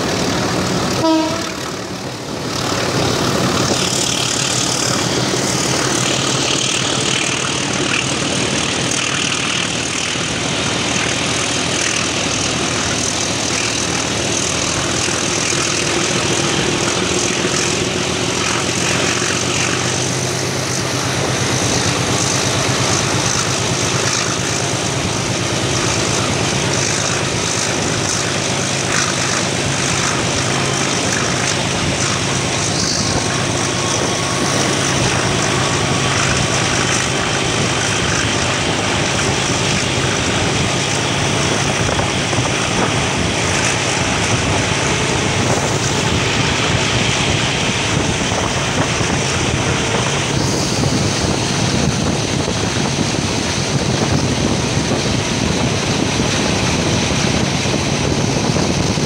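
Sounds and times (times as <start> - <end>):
low diesel drone: 0.0 - 59.0
train wheels rumbling on rails: 0.0 - 59.0.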